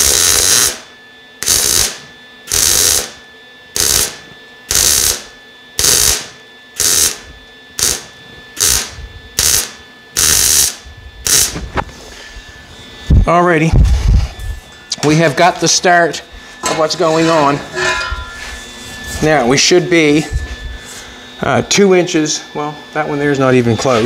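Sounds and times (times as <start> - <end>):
welder arc sizzling: 0.0 - 24.0.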